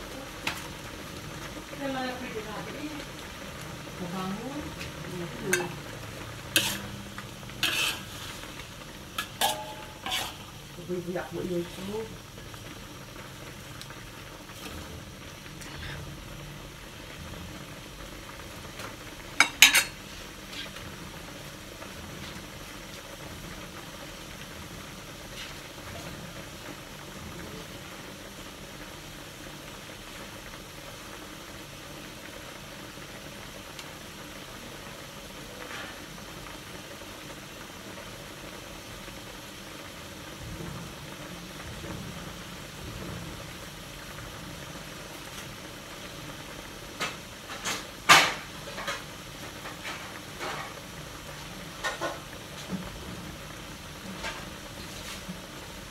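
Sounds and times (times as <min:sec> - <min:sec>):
food simmering in water: 0:00.0 - 0:55.9.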